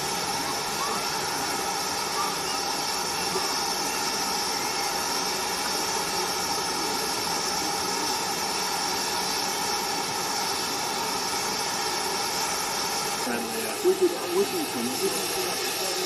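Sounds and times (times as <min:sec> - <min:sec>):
steam hissing from locomotive: 0:00.0 - 0:16.0.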